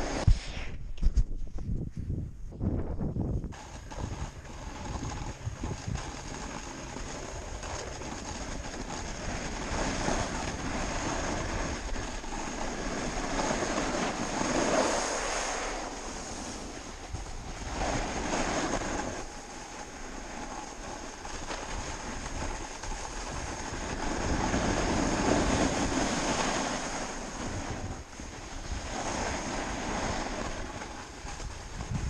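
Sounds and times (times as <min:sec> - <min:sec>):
snowboard scraping over snow: 0:00.0 - 0:00.9, 0:02.6 - 0:32.0
wind on microphone: 0:00.0 - 0:32.0.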